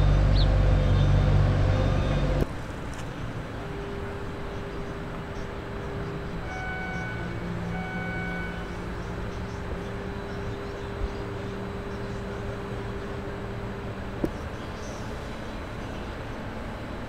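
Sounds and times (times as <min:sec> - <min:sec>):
diesel engine rumbling: 0:00.0 - 0:17.0
distant traffic hum: 0:00.0 - 0:17.0.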